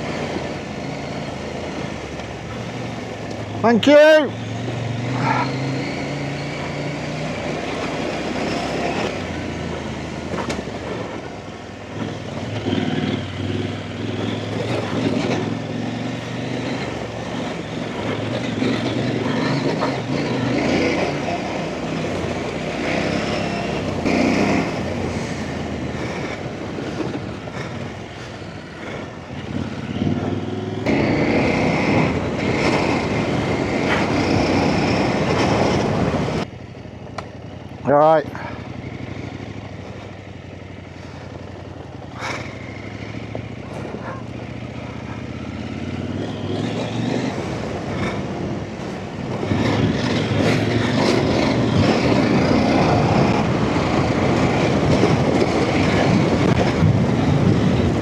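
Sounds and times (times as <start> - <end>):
motorcycle engine revving: 0.0 - 58.0
wind and riding noise: 0.0 - 58.0.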